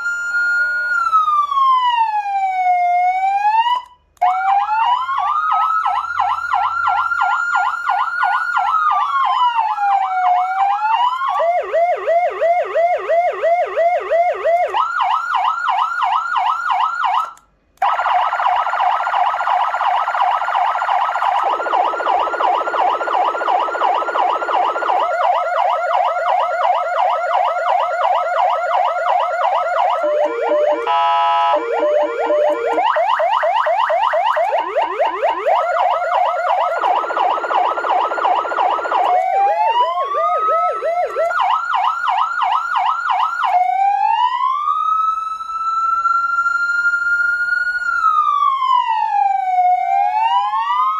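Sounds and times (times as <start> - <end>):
electronic siren wailing and yelping: 0.0 - 45.0.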